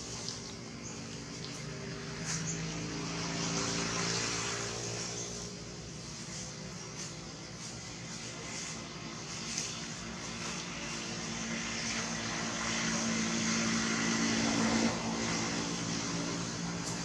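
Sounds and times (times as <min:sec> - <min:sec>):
engine passing by: 0:00.0 - 0:17.0.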